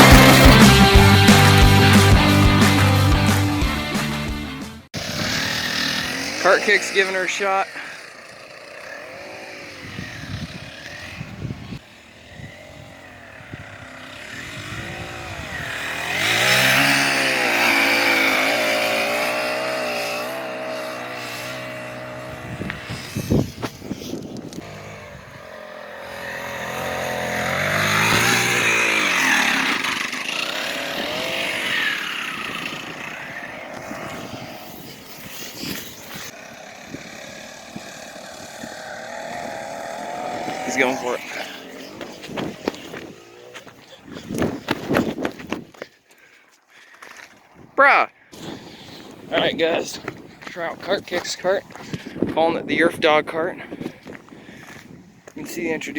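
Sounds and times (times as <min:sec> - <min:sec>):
small gas engine revving: 0:00.0 - 0:45.8.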